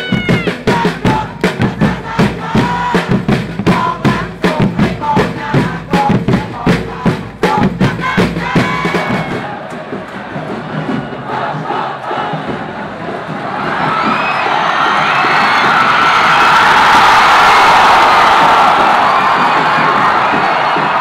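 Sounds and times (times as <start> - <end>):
crowd chanting and singing: 0.0 - 21.0
steady drumbeat: 0.0 - 21.0.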